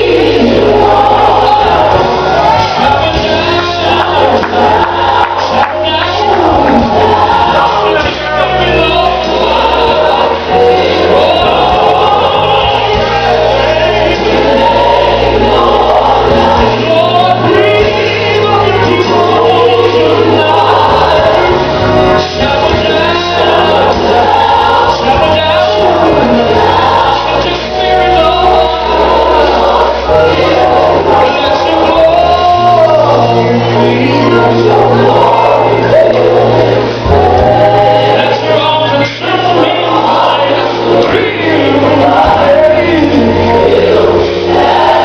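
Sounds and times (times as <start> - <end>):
choir singing over a band: 0.0 - 45.0.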